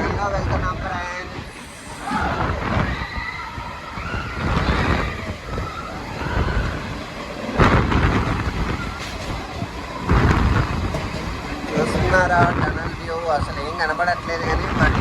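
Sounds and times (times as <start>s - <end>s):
passenger train rumbling: 0.0s - 15.0s
wind noise: 0.0s - 15.0s.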